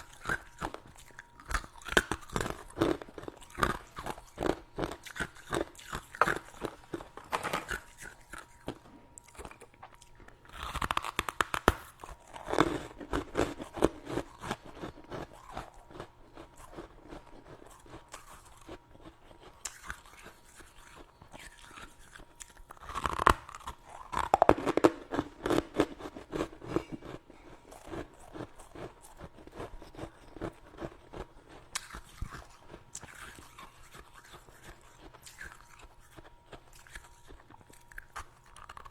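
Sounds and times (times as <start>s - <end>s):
crunchy biting and chewing frost: 0.0s - 38.9s.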